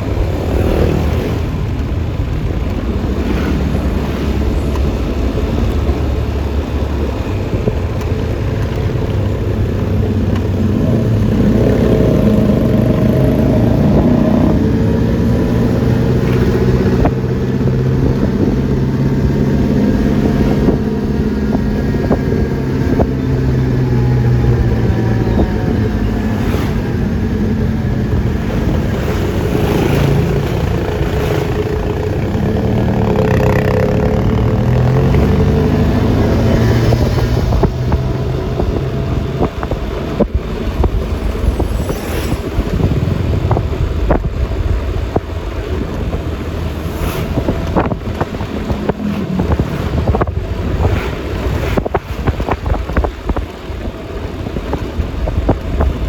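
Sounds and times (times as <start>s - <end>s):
scooter engine running: 0.0s - 56.0s
wind and road noise: 0.0s - 56.0s.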